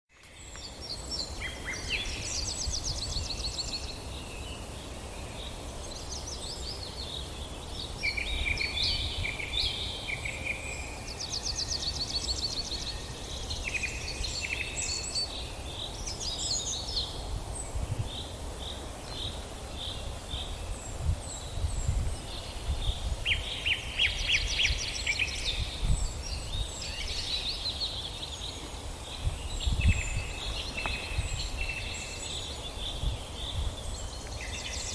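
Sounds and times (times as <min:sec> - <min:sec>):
songbirds singing: 0:00.1 - 0:34.9.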